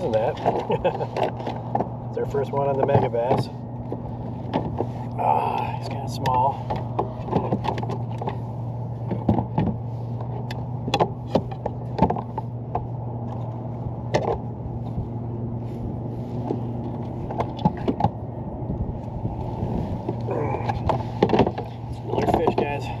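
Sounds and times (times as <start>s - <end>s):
sharp clicks and knocks: 0.0s - 8.4s, 9.0s - 14.5s, 16.4s - 18.2s, 20.0s - 22.8s
steady low hum: 0.0s - 23.0s.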